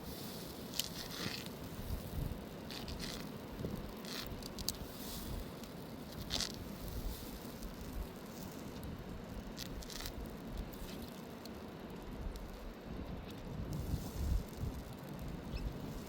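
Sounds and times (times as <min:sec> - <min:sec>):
light rustles and crackles: 0:00.0 - 0:16.0.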